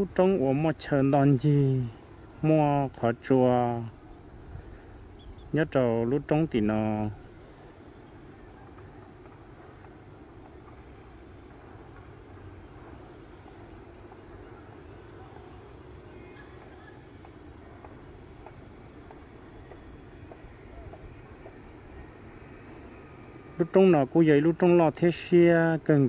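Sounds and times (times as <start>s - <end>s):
insect chorus chirring: 0.0s - 26.0s.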